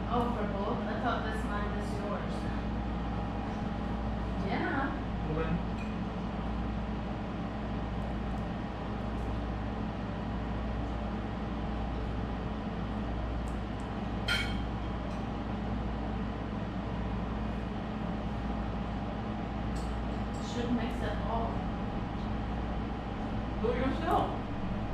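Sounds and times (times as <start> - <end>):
low machine hum: 0.0 - 24.9.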